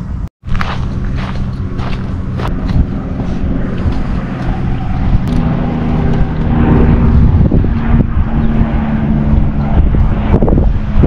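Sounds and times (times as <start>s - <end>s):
low steady drone: 0.0s - 11.0s
wind on microphone: 0.0s - 11.0s.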